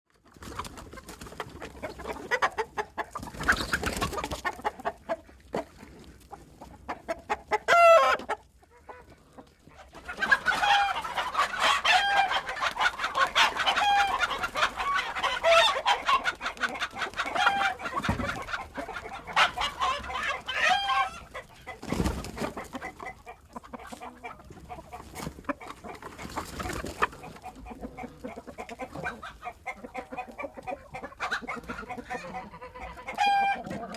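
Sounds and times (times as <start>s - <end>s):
chickens clucking and squawking: 0.1s - 33.9s.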